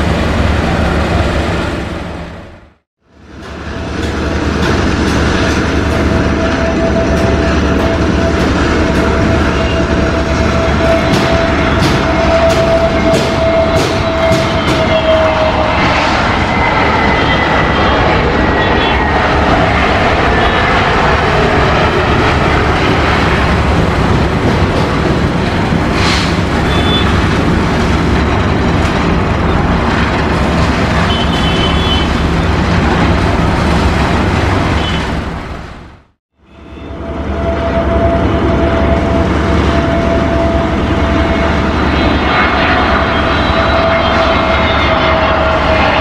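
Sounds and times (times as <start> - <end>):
jet engines rushing: 0.0 - 35.8, 38.8 - 46.0.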